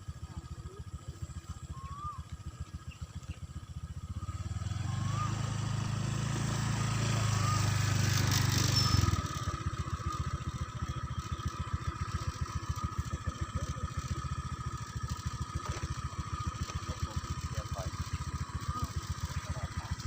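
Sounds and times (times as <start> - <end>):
small engine revving and idling: 0.0 - 20.0.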